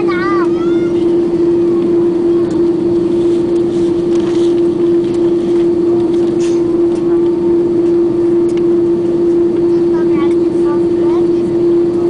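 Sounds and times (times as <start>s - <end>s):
aircraft cabin hum: 0.0s - 12.0s.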